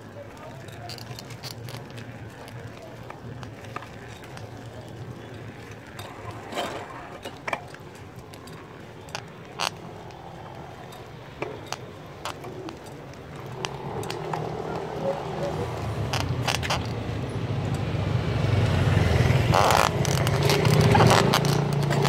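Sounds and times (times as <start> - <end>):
bicycle knocks and clicks: 0.4 - 22.0.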